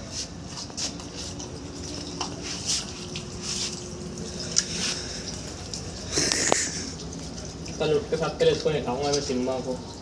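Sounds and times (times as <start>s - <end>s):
puppies chewing wetly: 0.2s - 10.0s.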